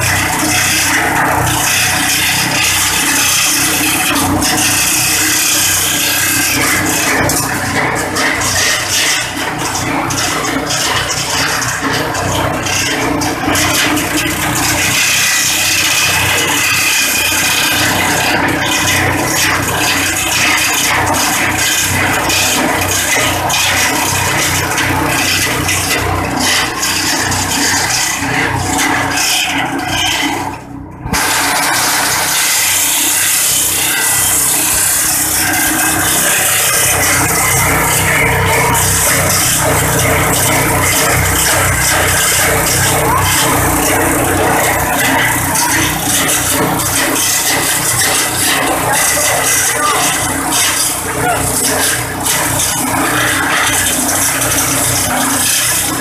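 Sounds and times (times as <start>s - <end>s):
small engine throbbing: 0.0s - 56.0s
waste chopper shredding grass: 0.0s - 56.0s.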